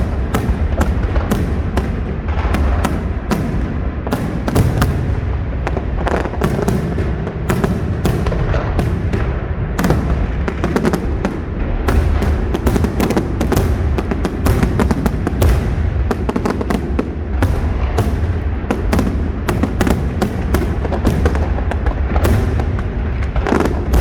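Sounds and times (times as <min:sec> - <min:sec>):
firework cracks: 0:00.0 - 0:24.0
low rumble of booming shells: 0:00.0 - 0:24.0.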